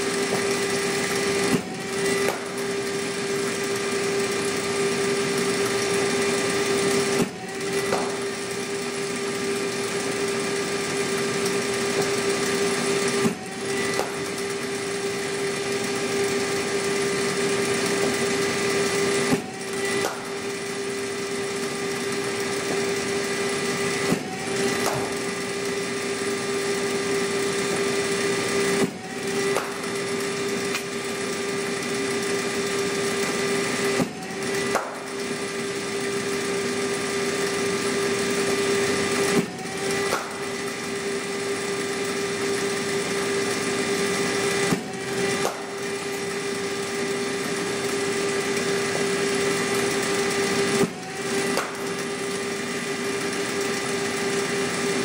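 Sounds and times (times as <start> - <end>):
bowling machine humming: 0.0 - 55.0.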